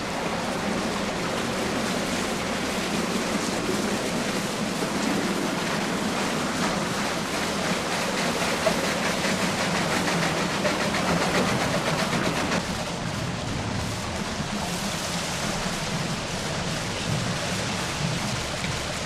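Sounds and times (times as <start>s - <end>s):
rushing water: 0.0s - 19.0s
sawmill machinery clattering: 0.0s - 19.0s.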